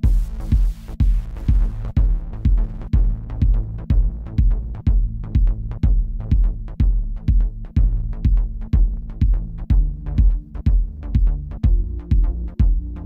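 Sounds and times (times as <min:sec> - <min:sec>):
sustained bass tones: 0:00.0 - 0:13.0.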